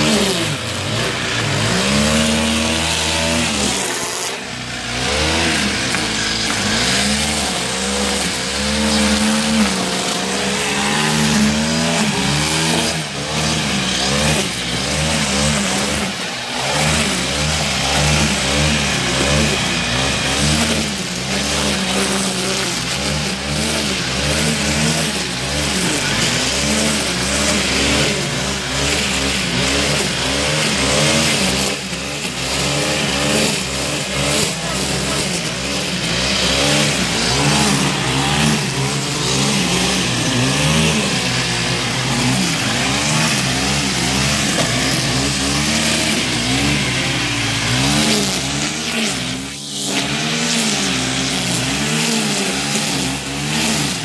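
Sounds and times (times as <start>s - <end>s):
brushcutter engine cutting grass: 0.0s - 54.0s.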